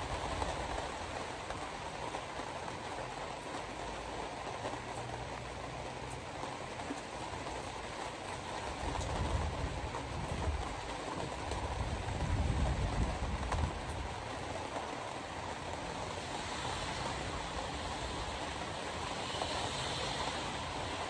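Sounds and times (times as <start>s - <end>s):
car tyres on wet road: 0.0s - 21.0s
hard rain: 0.0s - 21.0s.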